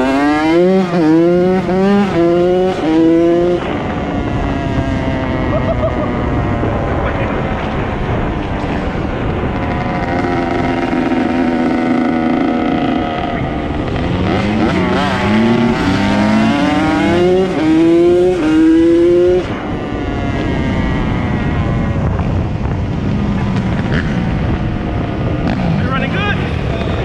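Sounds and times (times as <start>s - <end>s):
dirt bike engine accelerating: 0.0s - 27.0s.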